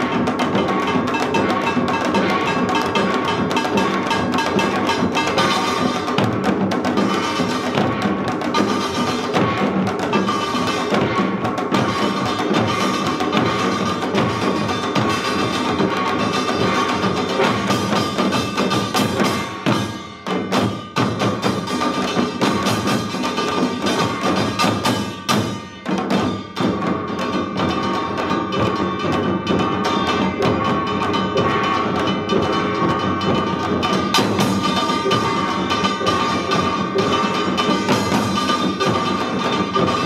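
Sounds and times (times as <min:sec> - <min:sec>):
fast percussion drumming: 0:00.0 - 0:40.0.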